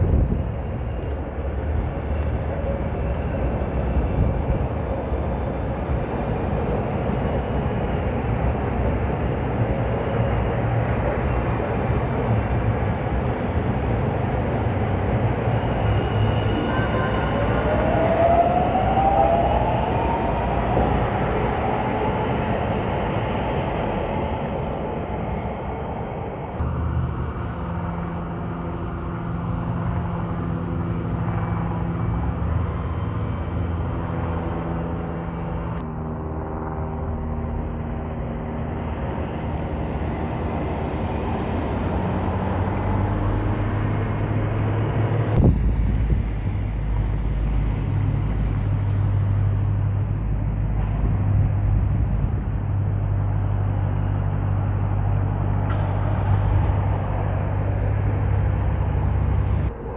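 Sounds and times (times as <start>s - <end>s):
vehicle engines in traffic: 0.0s - 59.9s.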